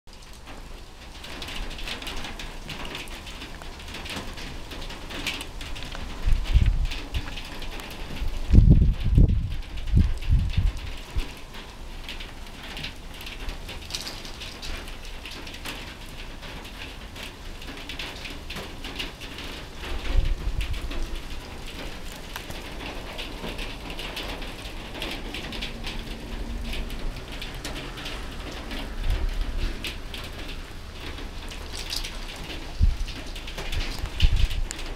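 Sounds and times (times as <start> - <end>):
light rain pattering: 0.1 - 34.9.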